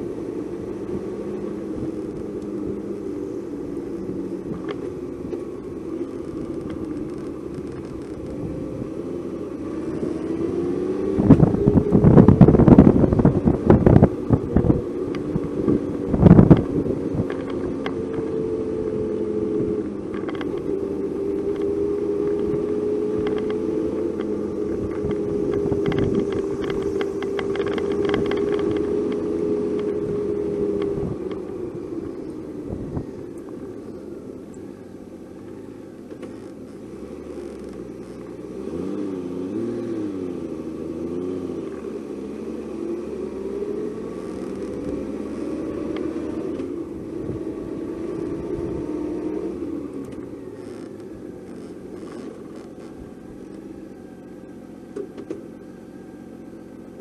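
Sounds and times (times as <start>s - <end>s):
car engine: 0.0s - 57.0s.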